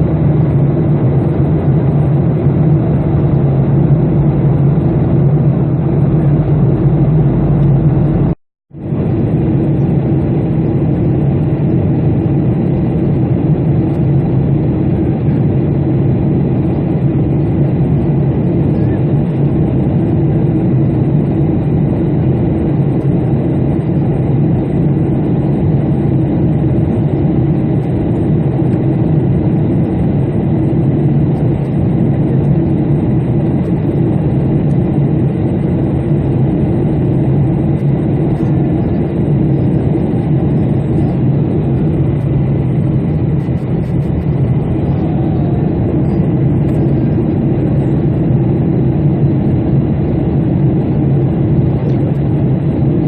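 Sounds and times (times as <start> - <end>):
airplane engine drone: 0.0 - 53.0.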